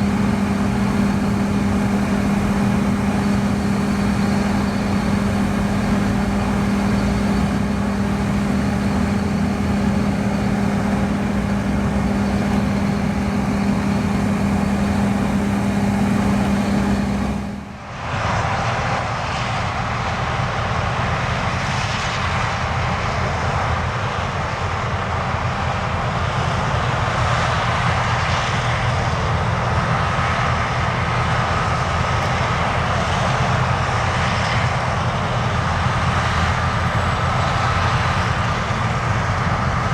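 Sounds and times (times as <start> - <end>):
combine harvester engine drone: 0.0 - 39.9
noisier running machine: 0.0 - 39.9.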